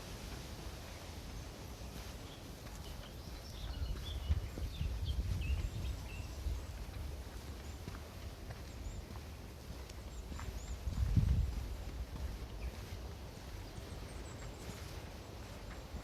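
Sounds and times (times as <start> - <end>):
small birds chirping: 0.0 - 16.0
wind rumbling on microphone: 0.0 - 16.0.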